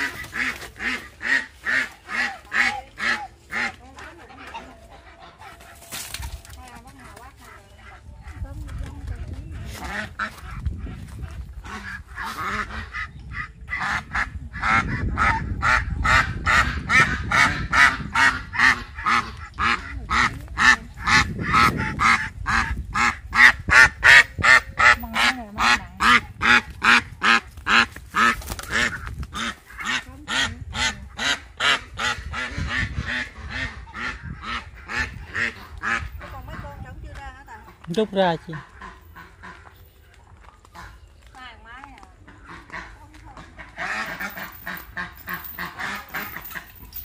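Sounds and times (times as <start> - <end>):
duck quacking rapidly: 0.0 - 5.8, 9.5 - 11.0, 11.6 - 36.7, 38.5 - 39.6, 42.3 - 46.6.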